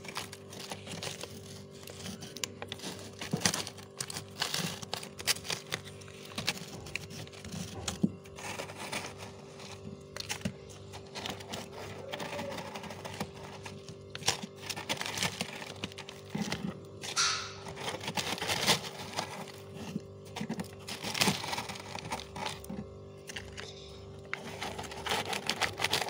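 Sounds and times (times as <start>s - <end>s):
frost crunching: 0.0s - 26.0s
frost scraping: 0.0s - 26.0s.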